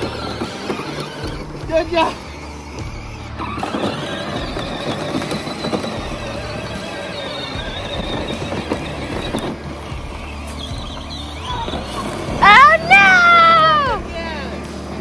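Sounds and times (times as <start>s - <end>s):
electric toy vehicle motors whining: 0.0s - 15.0s.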